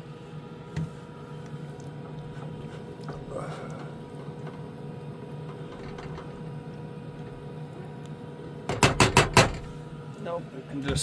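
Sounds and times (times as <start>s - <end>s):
diesel heater humming: 0.0s - 11.0s.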